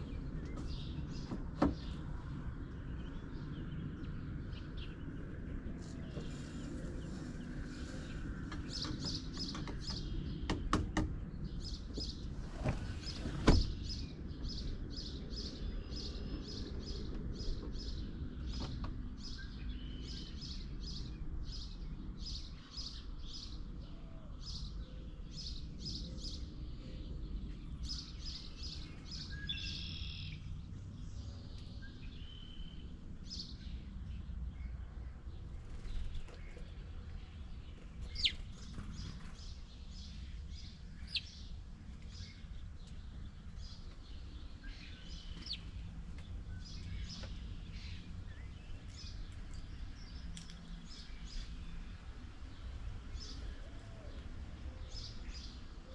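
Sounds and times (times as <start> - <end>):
songbird chirping: 0.0 - 55.9.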